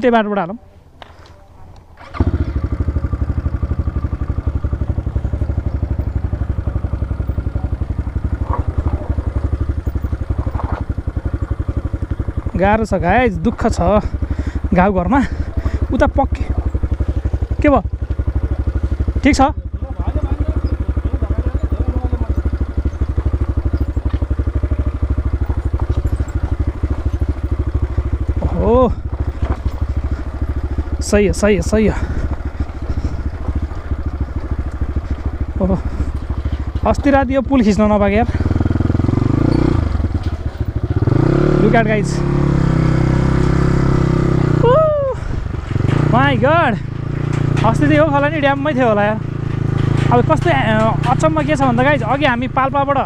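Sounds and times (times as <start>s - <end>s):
light rattle: 1.0s - 38.9s, 45.3s - 52.5s
motorcycle engine idling: 1.0s - 53.0s.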